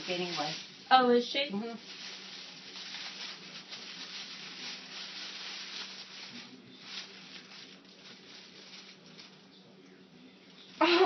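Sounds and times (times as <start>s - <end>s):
tissue paper rustling: 0.0s - 9.5s.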